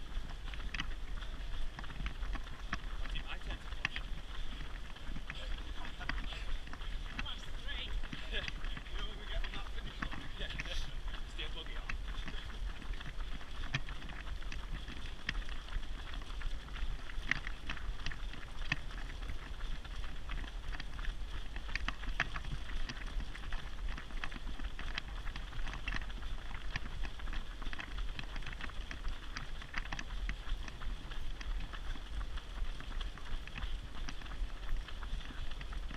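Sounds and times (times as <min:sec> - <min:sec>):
footsteps on tarmac: 0:00.0 - 0:35.9
stroller wheels rumbling: 0:00.0 - 0:35.9.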